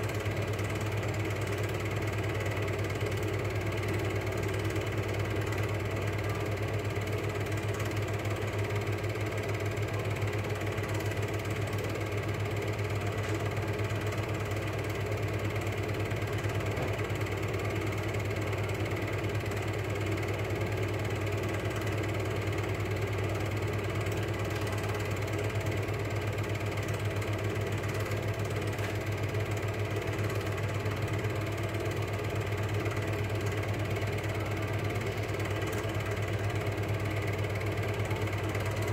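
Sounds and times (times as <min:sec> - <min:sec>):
film projector whirring and fluttering: 0:00.0 - 0:38.9.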